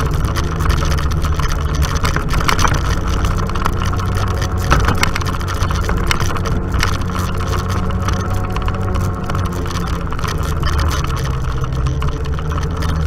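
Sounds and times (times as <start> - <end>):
knocks and rattles from rough ride: 0.0 - 13.0
off-road vehicle engine running: 0.0 - 13.0.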